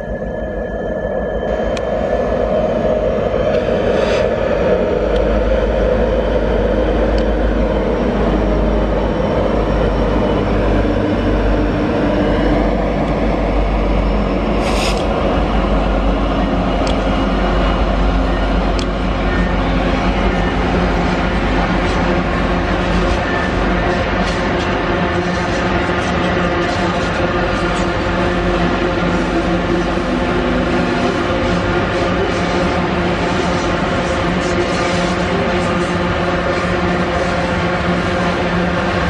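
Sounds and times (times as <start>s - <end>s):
diesel locomotive drone: 0.0s - 39.0s
train wheels rumbling on rails: 0.0s - 39.0s.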